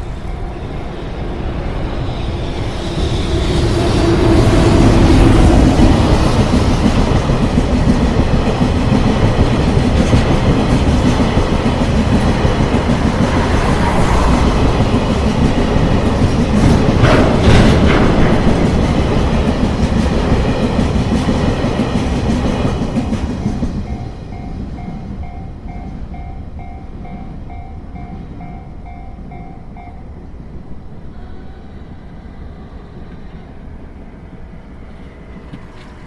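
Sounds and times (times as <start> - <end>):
sharp train clanks: 0.0 - 30.1
freight train rumbling: 0.0 - 36.0.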